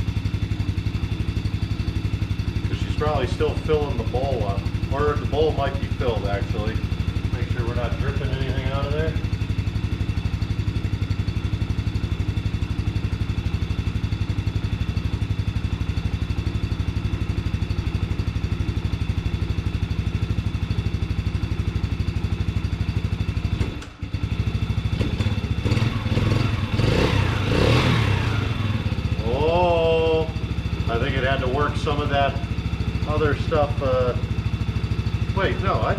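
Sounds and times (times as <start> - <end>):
atv engine idling: 0.0 - 35.9.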